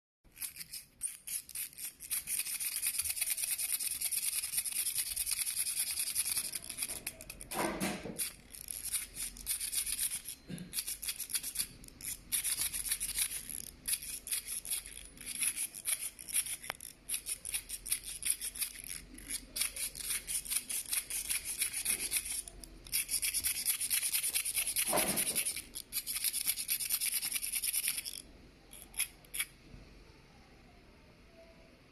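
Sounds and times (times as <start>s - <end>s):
rubbing and scraping: 0.3s - 29.5s.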